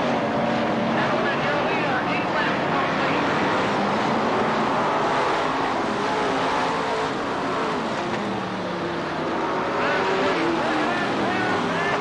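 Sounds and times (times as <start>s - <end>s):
racing car engines roaring: 0.0s - 12.0s.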